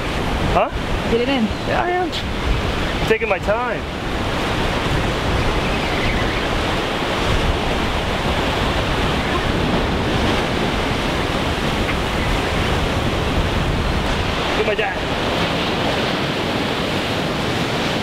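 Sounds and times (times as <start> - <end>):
ocean surf breaking: 0.0 - 18.0
wind blowing across microphone: 0.0 - 18.0.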